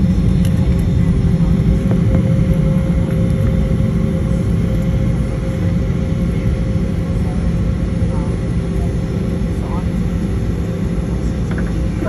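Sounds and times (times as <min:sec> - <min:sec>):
airliner cabin engine hum: 0:00.0 - 0:12.0.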